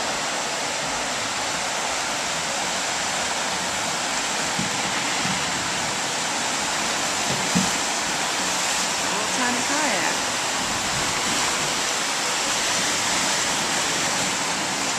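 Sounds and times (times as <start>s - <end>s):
ocean surf rushing: 0.0s - 14.9s.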